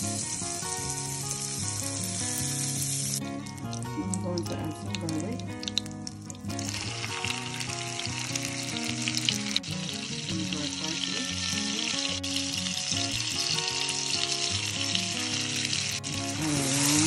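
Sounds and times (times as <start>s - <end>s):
background music with sustained notes: 0.0s - 17.0s
garlic sizzling in a pan: 0.0s - 17.0s.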